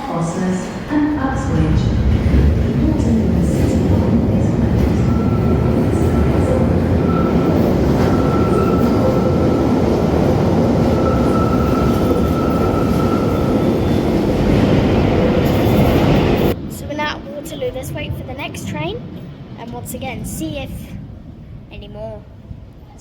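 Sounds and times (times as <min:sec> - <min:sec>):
underground train rumble: 0:00.0 - 0:23.0.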